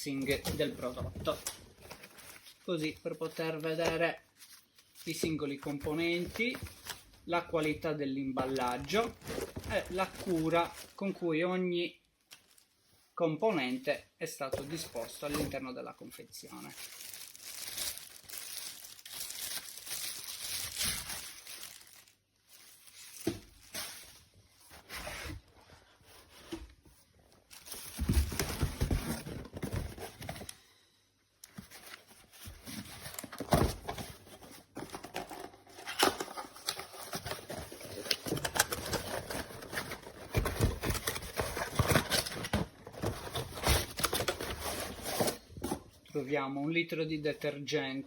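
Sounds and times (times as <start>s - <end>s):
plastic and paper crinkling: 0.0s - 11.3s, 11.9s - 12.8s, 14.4s - 30.6s, 31.4s - 45.9s.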